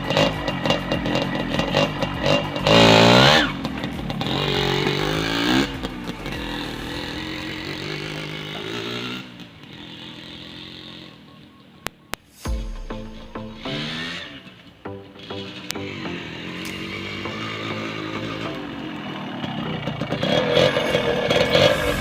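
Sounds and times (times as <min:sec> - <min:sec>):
two-stroke motorcycle engine revving: 0:00.0 - 0:22.0.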